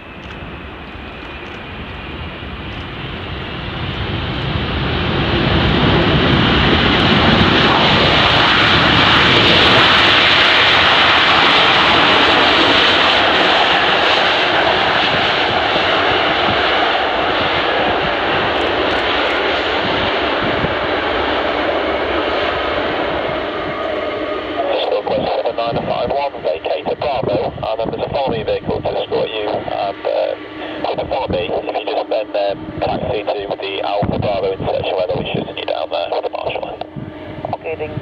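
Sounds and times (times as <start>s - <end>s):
jet engines roaring: 0.0s - 38.0s.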